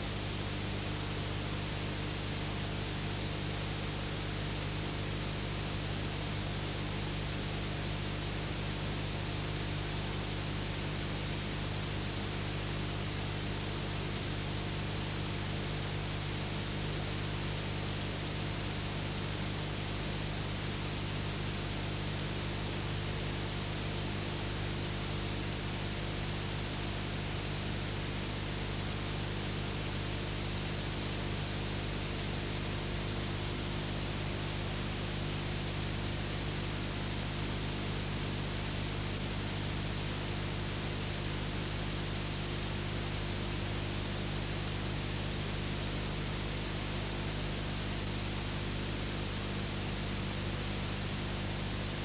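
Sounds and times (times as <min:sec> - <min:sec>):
steady film hiss: 0:00.0 - 0:52.0.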